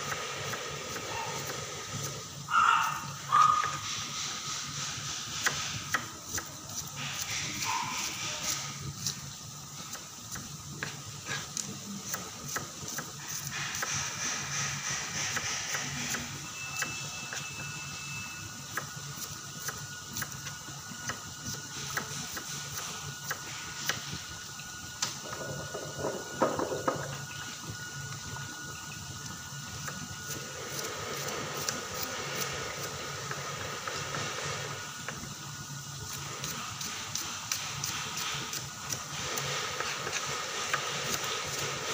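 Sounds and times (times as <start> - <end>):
onions deep-frying in oil: 0.0 - 41.9.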